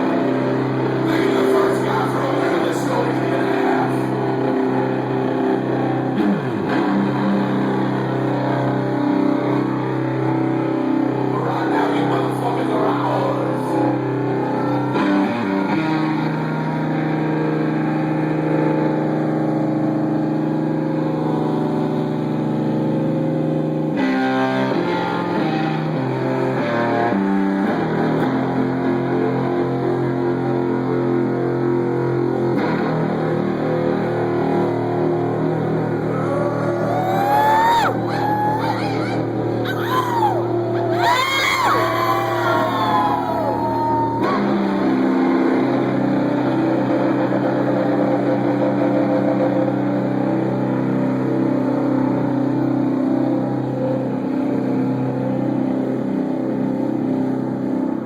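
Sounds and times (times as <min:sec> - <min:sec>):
distorted electric guitar chords: 0:00.0 - 0:11.3, 0:13.5 - 0:58.0
bass guitar: 0:00.0 - 0:58.0.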